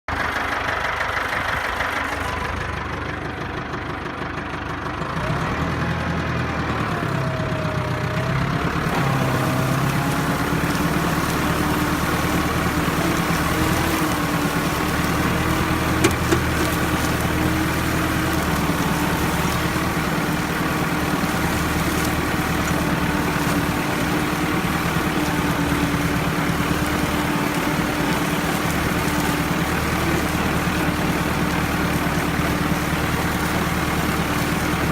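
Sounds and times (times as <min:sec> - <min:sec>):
tractor engine running under load: 0:00.1 - 0:34.9.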